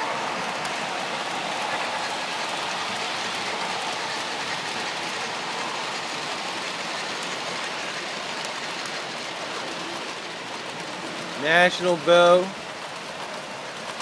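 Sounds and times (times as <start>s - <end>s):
model train wheels rushing on rails: 0.0s - 14.0s.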